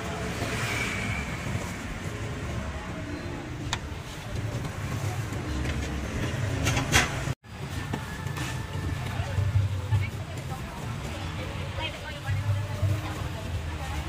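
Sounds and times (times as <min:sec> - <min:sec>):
road traffic and motorbikes: 0:00.0 - 0:14.0.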